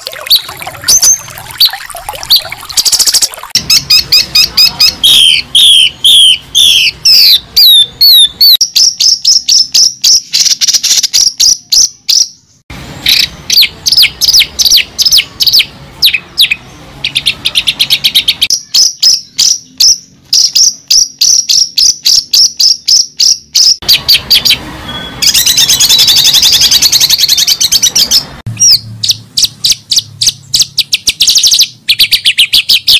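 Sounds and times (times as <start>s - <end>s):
bird chirping: 0.0s - 32.9s.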